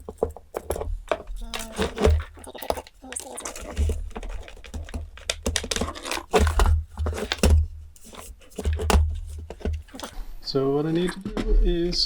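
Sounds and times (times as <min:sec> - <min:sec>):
power supply and cables handled: 0:00.0 - 0:10.2.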